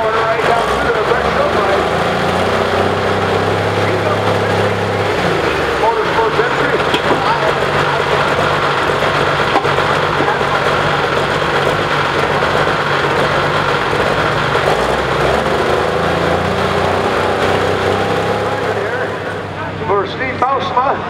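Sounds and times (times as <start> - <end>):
diesel tractor idling: 0.0 - 21.0.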